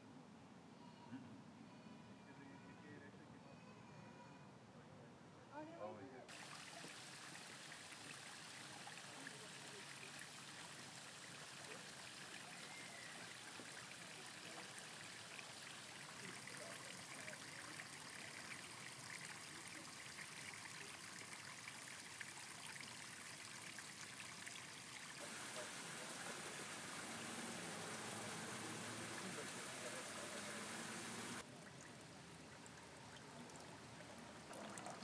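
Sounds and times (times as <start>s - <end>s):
running water: 6.3s - 35.0s.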